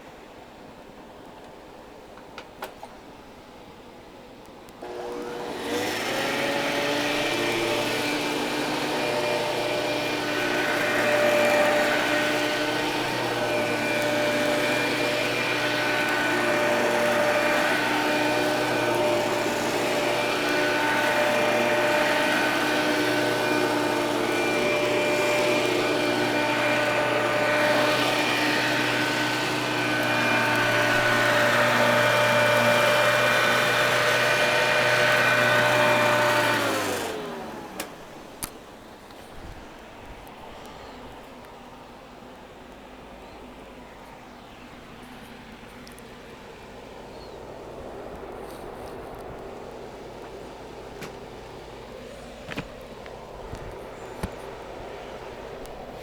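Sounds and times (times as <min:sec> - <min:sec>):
vacuum cleaner motor whine: 0:04.8 - 0:41.8, 0:43.6 - 0:56.0.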